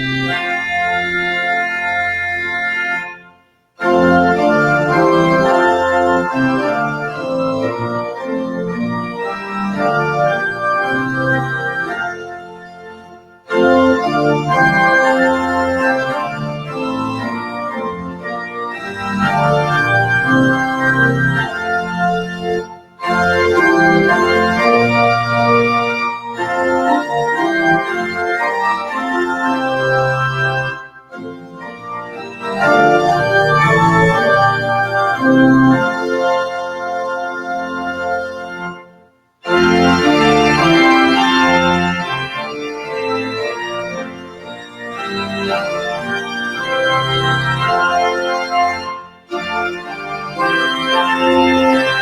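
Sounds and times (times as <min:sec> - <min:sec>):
church organ chords: 0:00.0 - 0:52.0.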